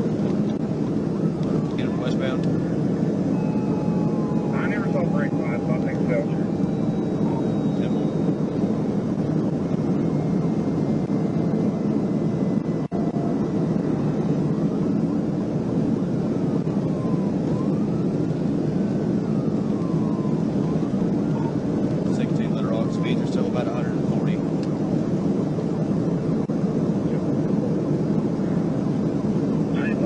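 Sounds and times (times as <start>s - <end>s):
faint siren wail: 0.0s - 30.0s
road and wind roar: 0.0s - 30.0s.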